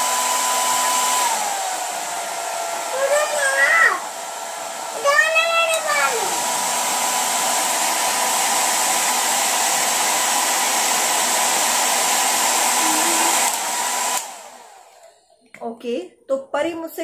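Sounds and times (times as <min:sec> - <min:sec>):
hair dryer blowing air: 0:00.0 - 0:15.2
hair dryer whine: 0:00.0 - 0:15.3.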